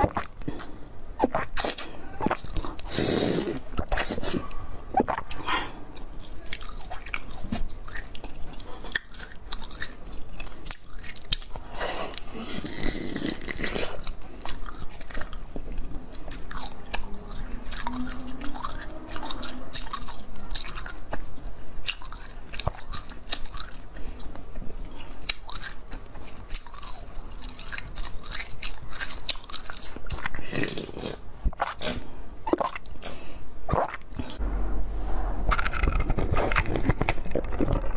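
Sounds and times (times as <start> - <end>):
chewing: 0.0 - 34.4.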